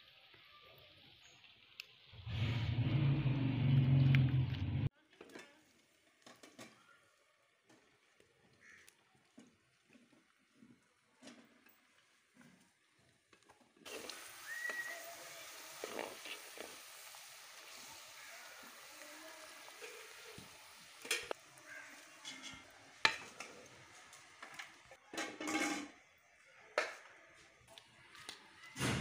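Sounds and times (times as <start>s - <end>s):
fries sizzling in hot oil: 0.0s - 3.9s, 5.6s - 26.9s.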